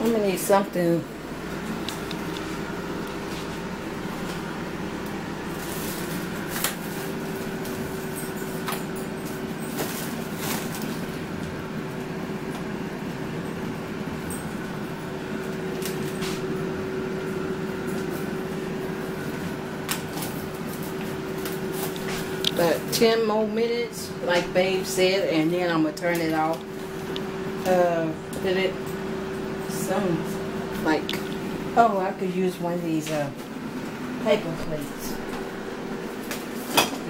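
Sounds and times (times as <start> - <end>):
air fryer fan whirring: 0.0 - 37.0.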